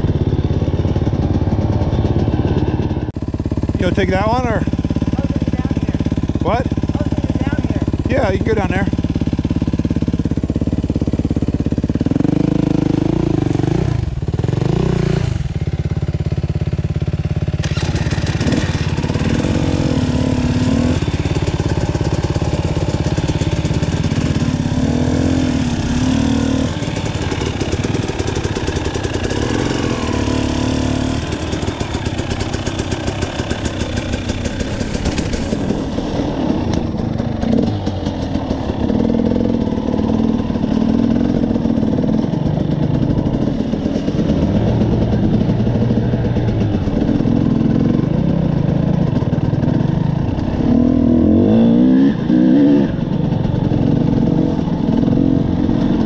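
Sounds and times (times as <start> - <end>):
dirt bike engine revving: 0.0 - 15.6, 16.4 - 56.0.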